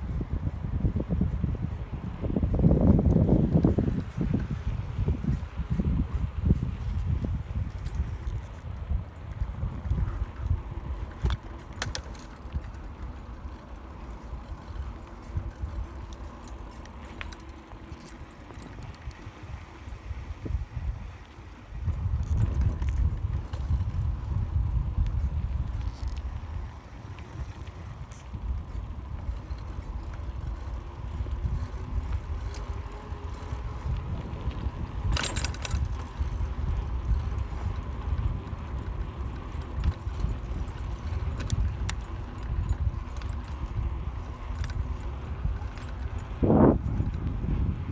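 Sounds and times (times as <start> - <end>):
wind rumble on microphone: 0.0 - 47.9.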